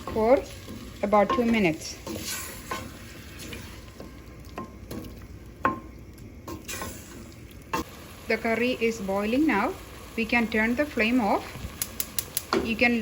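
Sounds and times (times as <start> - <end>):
curry boiling in a pan: 0.0 - 13.0.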